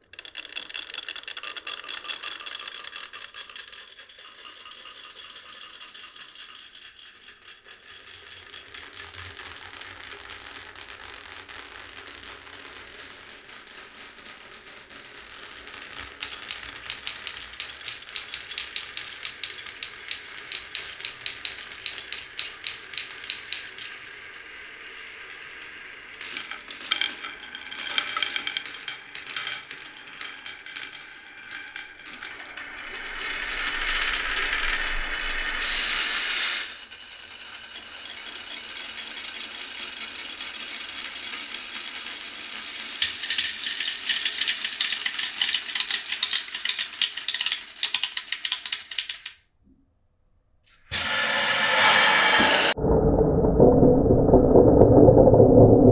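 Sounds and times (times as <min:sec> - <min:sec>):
marbles rolling down wooden run: 0:00.0 - 0:49.4.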